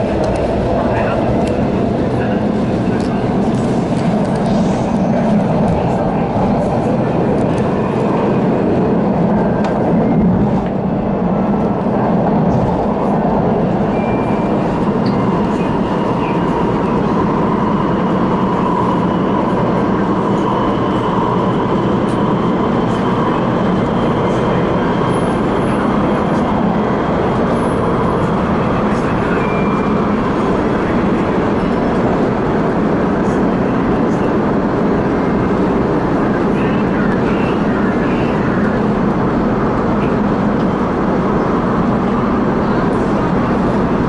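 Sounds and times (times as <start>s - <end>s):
faint train whine: 0.0s - 44.0s.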